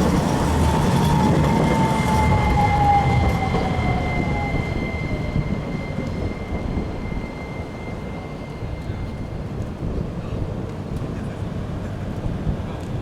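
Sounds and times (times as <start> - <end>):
tram running past: 0.0 - 13.0.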